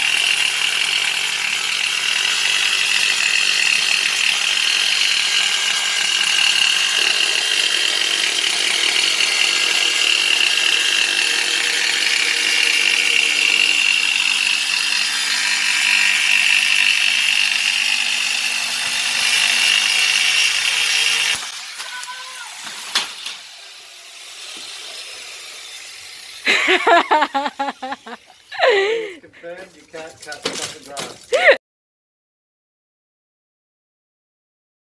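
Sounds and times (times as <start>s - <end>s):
angle grinder cutting glass: 0.0s - 31.6s.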